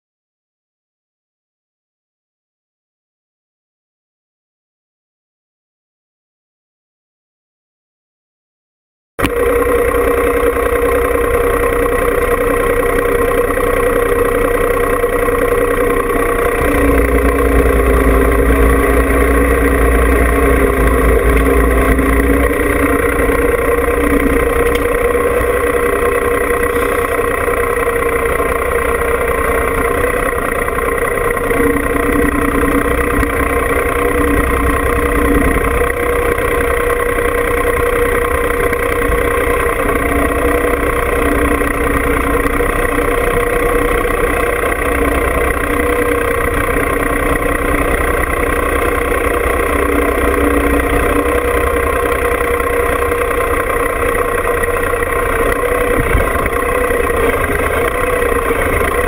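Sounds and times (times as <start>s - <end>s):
diesel tractor engine running: 9.2s - 59.0s.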